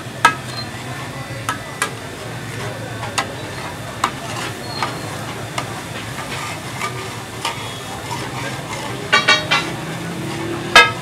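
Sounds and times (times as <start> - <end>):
chicken sizzling on hot plate: 0.0 - 11.0
metal spatula scraping and tapping: 0.2 - 0.7, 1.4 - 11.0.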